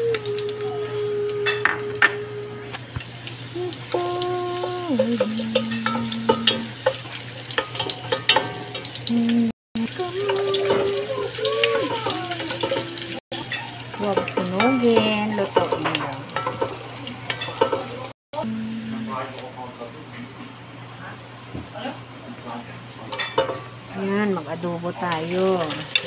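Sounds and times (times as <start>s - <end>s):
onions sizzling in hot oil: 0.0s - 19.4s, 23.0s - 26.0s.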